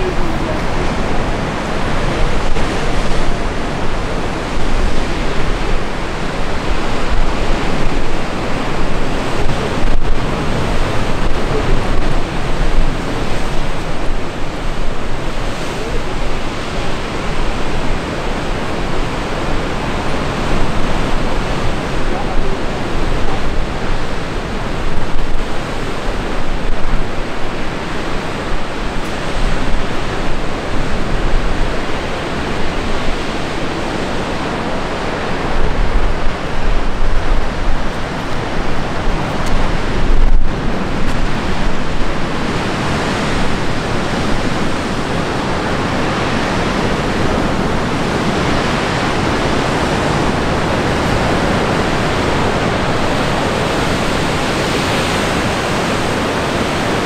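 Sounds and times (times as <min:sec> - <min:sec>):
surf breaking on rocks: 0:00.0 - 0:57.0
wind gusting on microphone: 0:00.0 - 0:57.0.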